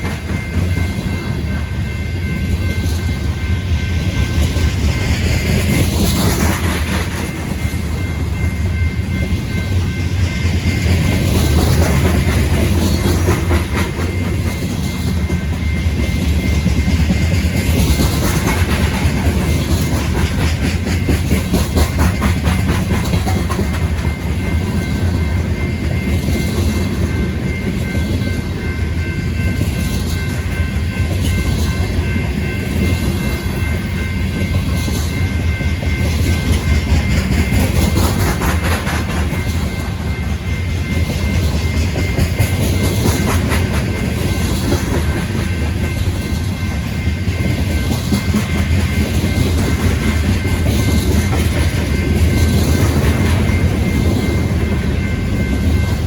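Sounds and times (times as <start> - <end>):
train rumbling past: 0.0 - 56.0
wheels clicking over rail joints: 4.4 - 28.3, 34.3 - 56.0.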